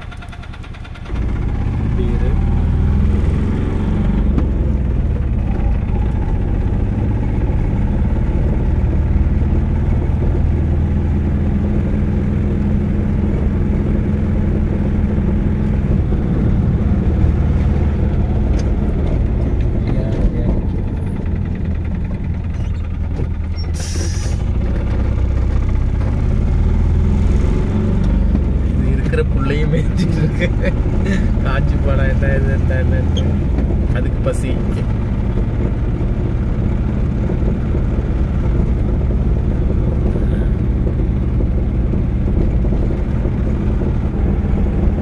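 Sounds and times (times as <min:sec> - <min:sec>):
motorcycle engine cruising: 0:00.0 - 0:45.0
wind and road noise: 0:00.0 - 0:45.0.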